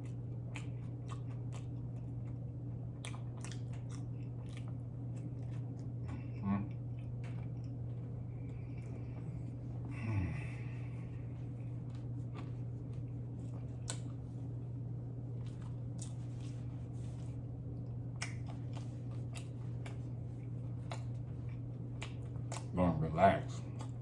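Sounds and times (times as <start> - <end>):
chewing and mouth smacks: 0.0 - 9.6, 11.4 - 14.5, 15.3 - 22.8, 23.5 - 24.0
steady low hum: 0.0 - 24.0.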